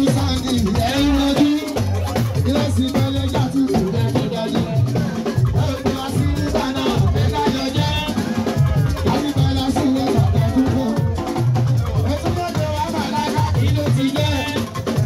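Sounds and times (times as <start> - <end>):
person singing: 0.0 - 14.9
drums and shaker percussion: 0.0 - 15.0.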